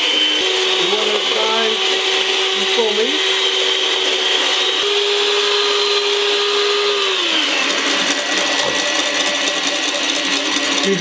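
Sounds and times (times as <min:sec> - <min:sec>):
electric mixer motor whine: 0:00.0 - 0:11.0
mixer motor winding down: 0:00.0 - 0:11.0.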